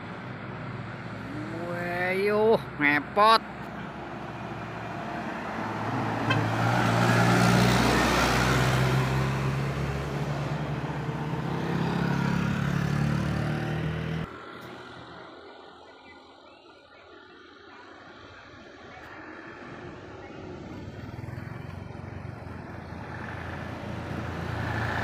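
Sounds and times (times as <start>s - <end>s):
faint traffic ambience: 0.0s - 25.0s
road noise: 0.0s - 25.0s.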